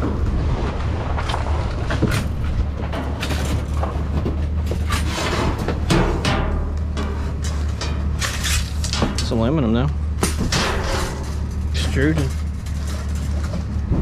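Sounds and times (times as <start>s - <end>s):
steady low rumble: 0.0s - 14.0s
knocks and clatter of items: 1.1s - 9.6s, 10.2s - 14.0s.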